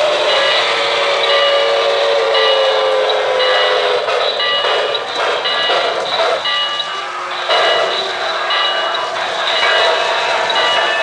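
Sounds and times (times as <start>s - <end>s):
model locomotive steam whistle: 0.0s - 5.0s, 7.0s - 11.0s
rhythmic locomotive running sound: 0.0s - 11.0s.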